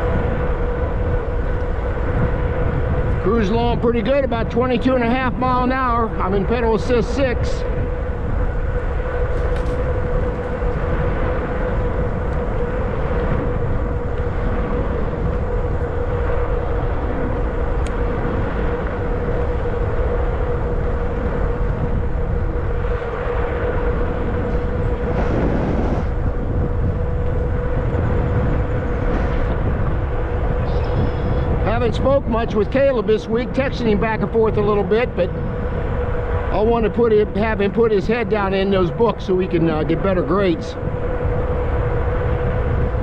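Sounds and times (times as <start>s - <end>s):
e-bike drive and tyre whine: 0.0s - 43.0s
wind rumble on microphone: 0.0s - 43.0s.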